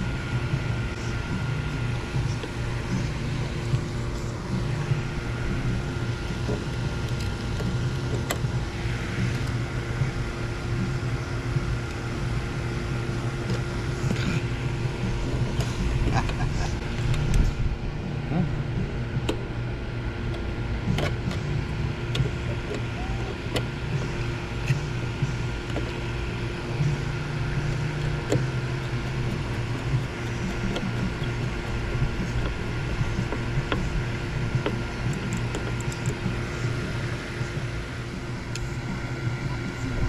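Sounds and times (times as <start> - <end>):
machine hum: 0.0 - 40.0.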